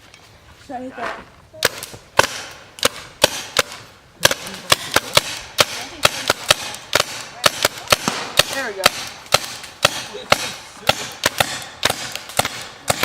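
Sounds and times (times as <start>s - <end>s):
paintball gun firing: 1.6s - 13.0s.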